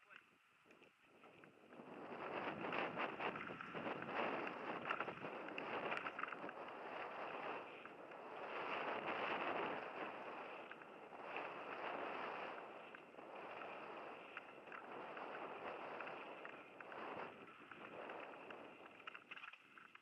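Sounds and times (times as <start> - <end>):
wind rushing over microphone: 1.1 - 19.3.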